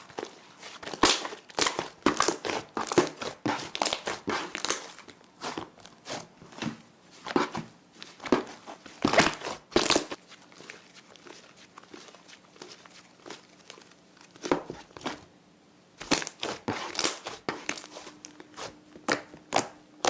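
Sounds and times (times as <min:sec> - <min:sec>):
slime being handled: 0:00.6 - 0:15.2, 0:16.0 - 0:19.8.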